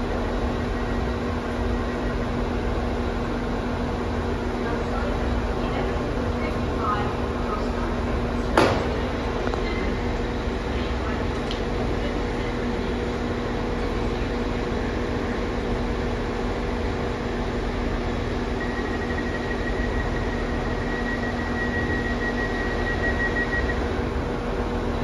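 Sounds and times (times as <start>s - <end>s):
high steady whine: 0.0s - 25.0s
train diesel engines idling: 0.0s - 25.0s.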